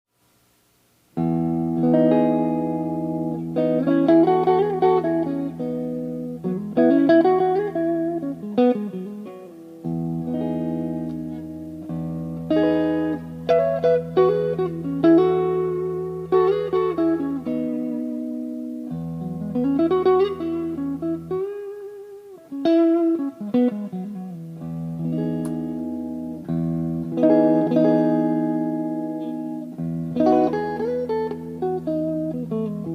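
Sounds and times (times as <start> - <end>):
clean electric guitar playing: 1.2 - 32.9.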